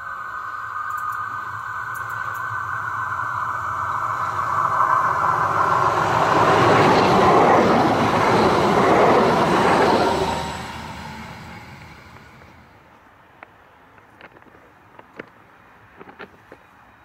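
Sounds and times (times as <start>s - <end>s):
tram wheels rolling on rails: 0.0s - 17.0s.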